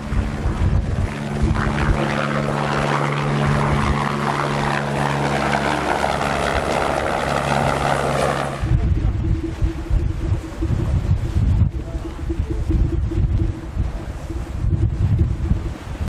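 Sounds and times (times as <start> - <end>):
engine drone: 0.0 - 16.0
wind buffeting microphone: 0.0 - 16.0.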